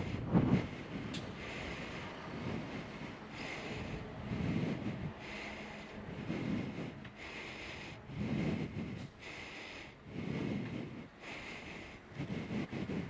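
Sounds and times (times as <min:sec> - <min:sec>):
cyclist breathing: 0:00.0 - 0:13.0
wind and road noise: 0:00.0 - 0:13.0.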